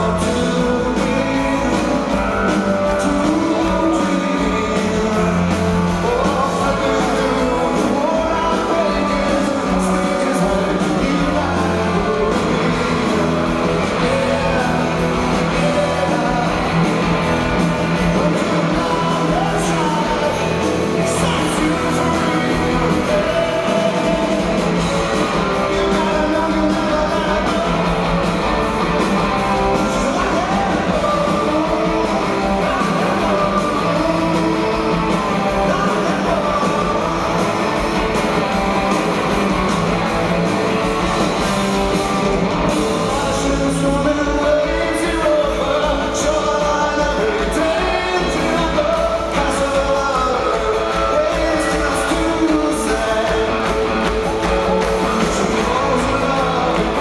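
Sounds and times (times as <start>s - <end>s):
drums: 0.0s - 57.0s
electric guitars: 0.0s - 57.0s
person singing: 0.0s - 57.0s.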